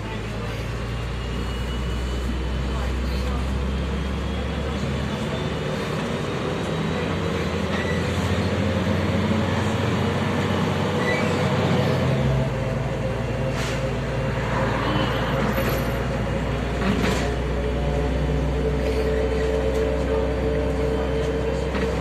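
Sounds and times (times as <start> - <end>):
bus diesel engine running: 0.0 - 22.0
road and cabin rumble: 0.0 - 22.0.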